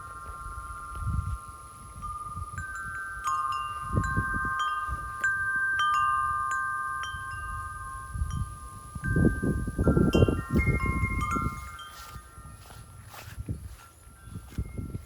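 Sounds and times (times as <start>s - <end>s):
tubular wind chime ringing: 0.0s - 13.0s
wind gusts on microphone: 0.0s - 15.0s.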